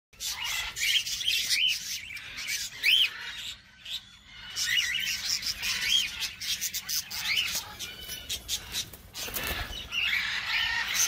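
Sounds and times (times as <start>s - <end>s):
parakeets chattering and chirping: 0.2s - 11.0s.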